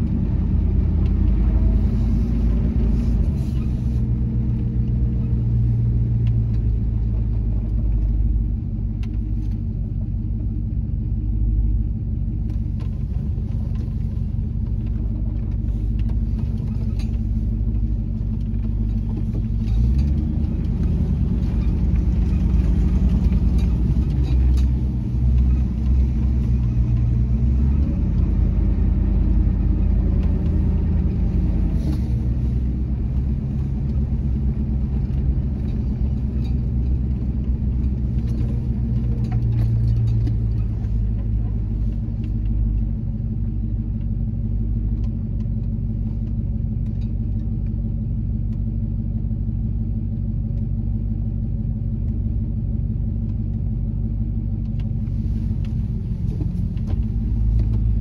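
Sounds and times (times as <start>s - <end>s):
engine running inside vehicle cabin: 0.0s - 58.0s.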